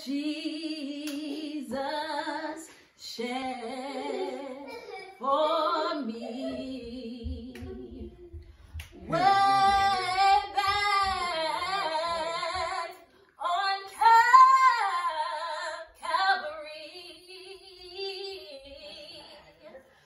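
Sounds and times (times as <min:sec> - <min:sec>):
women singing a cappella hymn: 0:00.0 - 0:19.8.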